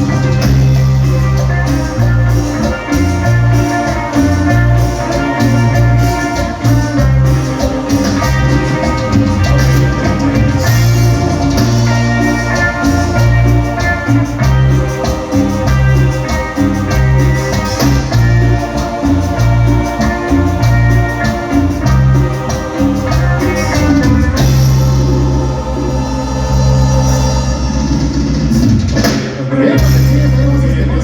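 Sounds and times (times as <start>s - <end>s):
live band latin dance music: 0.0s - 31.0s.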